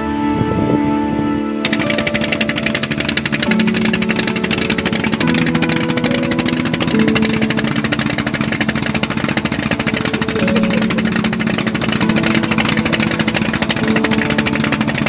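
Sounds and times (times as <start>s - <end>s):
boat engine running: 1.6s - 15.0s.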